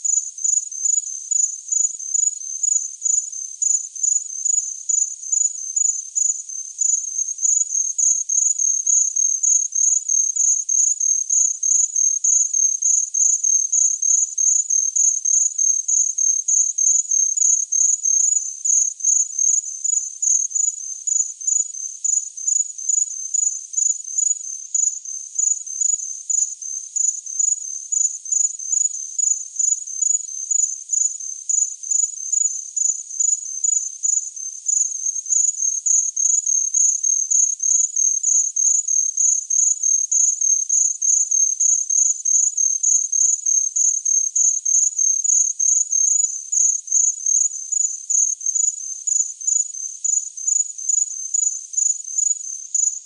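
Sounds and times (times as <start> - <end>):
cricket chirping: 0.0 - 53.0.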